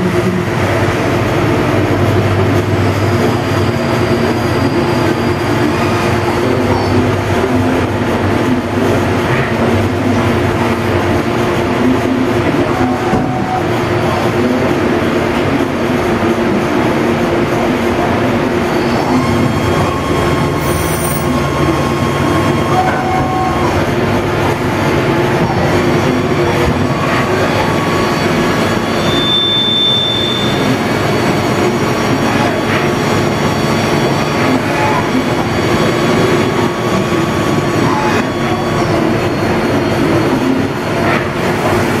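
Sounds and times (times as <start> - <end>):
high machine whine: 0.0 - 42.0
lathe machine running: 0.0 - 42.0.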